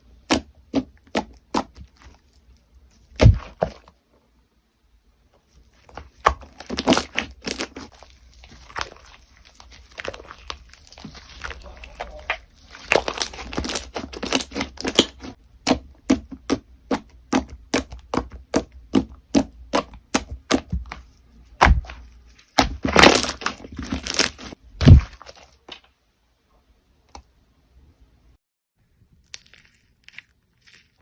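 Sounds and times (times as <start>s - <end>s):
crunchy slime crackling: 0.1s - 4.0s, 5.4s - 25.9s, 29.0s - 31.0s.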